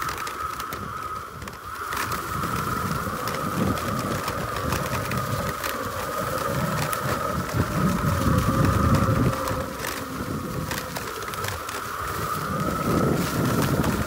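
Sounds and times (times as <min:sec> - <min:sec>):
wheels rumbling on dirt: 0:00.0 - 0:14.0.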